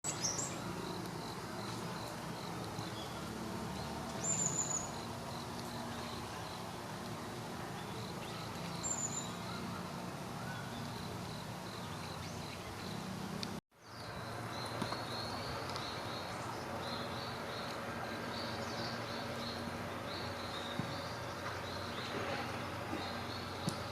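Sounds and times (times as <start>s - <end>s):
small bird chirping: 0.0s - 6.8s, 7.7s - 23.9s.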